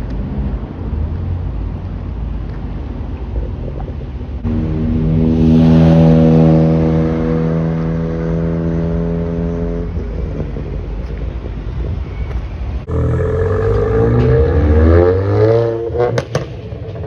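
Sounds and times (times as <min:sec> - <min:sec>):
car engine and exhaust droning: 0:00.0 - 0:17.0
low rumble: 0:03.2 - 0:17.0.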